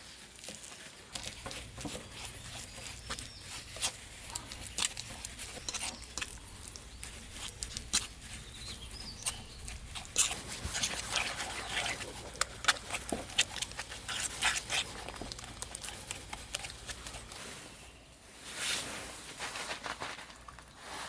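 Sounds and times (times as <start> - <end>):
rustling: 0.0 - 21.0.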